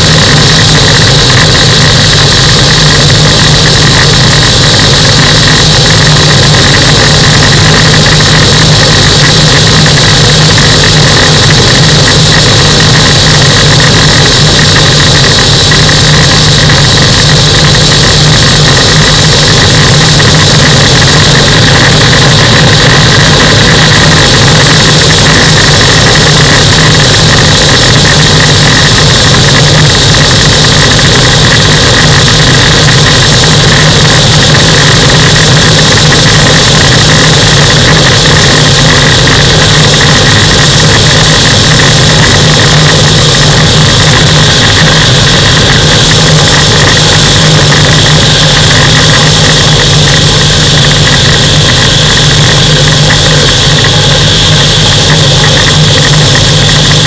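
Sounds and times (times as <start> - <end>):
high steady whine: 0.0 - 57.0
microlight engine and propeller: 0.0 - 57.0.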